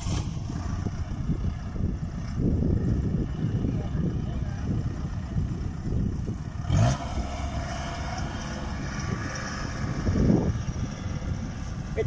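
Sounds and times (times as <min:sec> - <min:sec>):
combine harvester diesel engines: 0:00.0 - 0:12.0.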